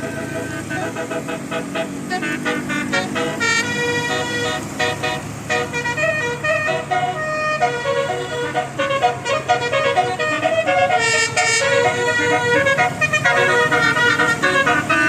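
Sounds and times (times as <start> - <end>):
engine running steadily: 0.0 - 15.0
multi-tone bus horn melody: 0.0 - 15.0.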